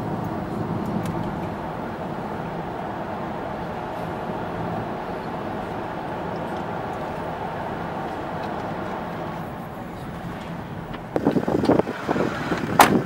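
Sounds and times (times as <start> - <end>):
tyre and engine hum: 0.0 - 13.0.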